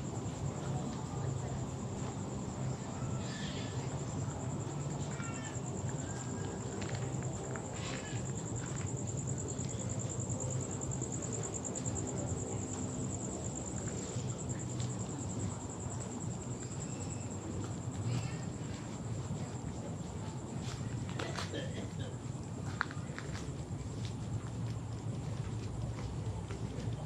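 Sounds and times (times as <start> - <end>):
insects trilling: 0.1 - 23.4.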